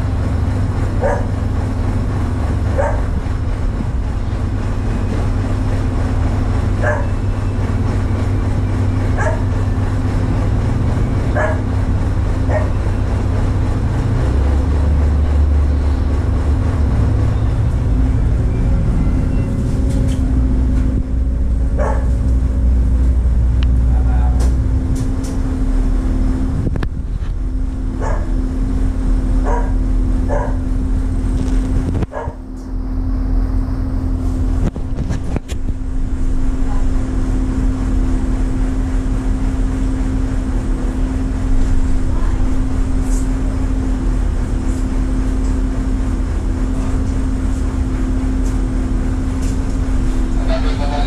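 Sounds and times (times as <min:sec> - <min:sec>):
ship diesel engines droning: 0:00.0 - 0:51.0.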